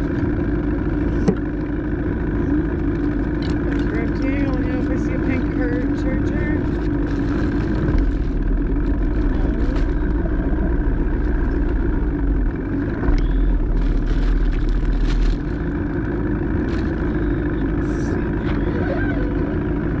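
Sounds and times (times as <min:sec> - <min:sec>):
boat motor running: 0:00.0 - 0:20.0
wind and hull rumble: 0:00.0 - 0:20.0.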